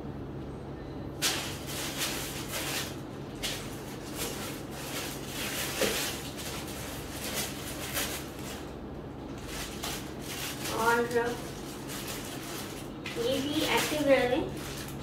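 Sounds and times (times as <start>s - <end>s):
plastic packaging crinkling: 1.2s - 15.0s.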